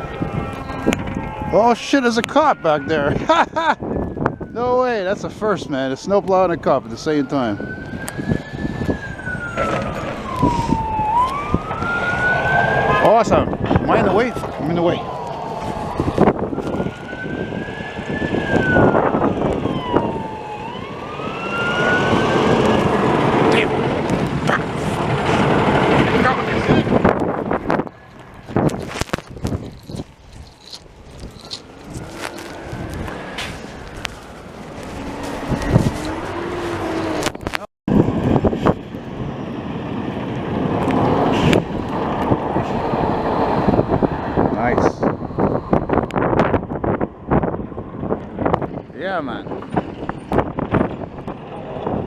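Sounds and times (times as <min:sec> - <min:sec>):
police siren wailing: 0:00.0 - 0:48.6
passing road traffic: 0:00.0 - 0:52.0
street and vehicle noise: 0:00.0 - 0:52.0
wind buffeting microphone: 0:00.0 - 0:52.0.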